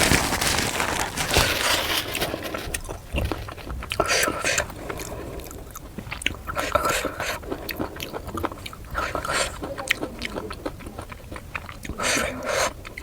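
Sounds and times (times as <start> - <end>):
chewing mouth clicks: 2.1 - 13.0.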